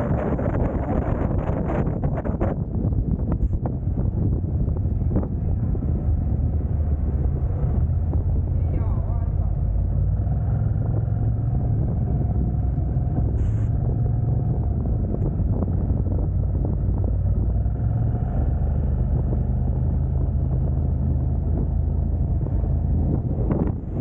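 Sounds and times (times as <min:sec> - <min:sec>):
car engine running: 0:00.0 - 0:24.0
constant low hum: 0:00.0 - 0:24.0
road rumble: 0:00.0 - 0:24.0.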